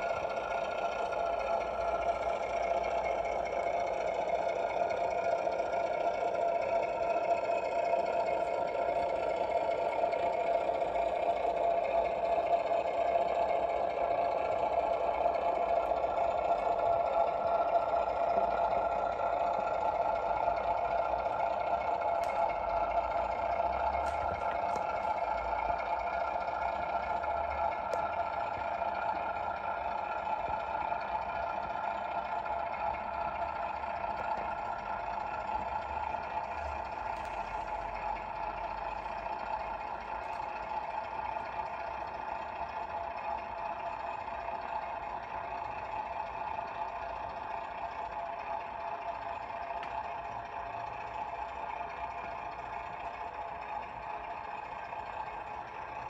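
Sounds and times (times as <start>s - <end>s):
tinny diesel engine drone: 0.0s - 56.0s.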